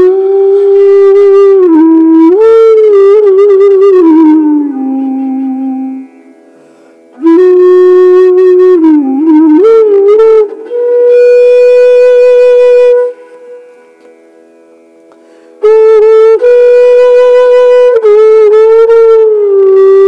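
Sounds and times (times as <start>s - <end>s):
slow solo melody with gliding bends: 0.0s - 19.8s.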